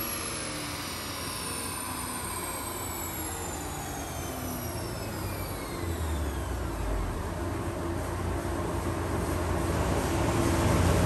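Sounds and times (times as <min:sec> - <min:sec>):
high turbo whine falling in pitch: 0:00.0 - 0:11.0.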